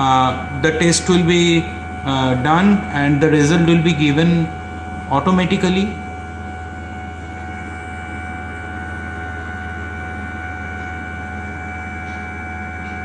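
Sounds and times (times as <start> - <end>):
machine humming with steady tones: 0.0 - 13.0.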